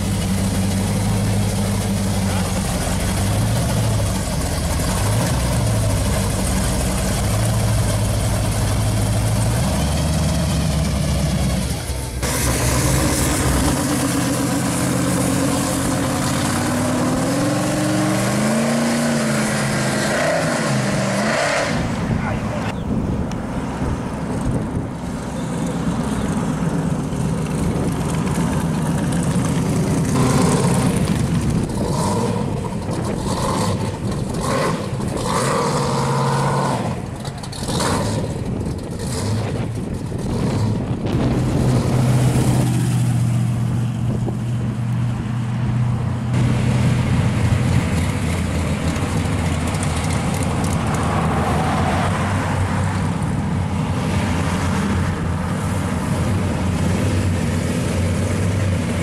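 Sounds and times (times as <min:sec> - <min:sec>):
cars driving past revving: 0:00.0 - 0:59.0.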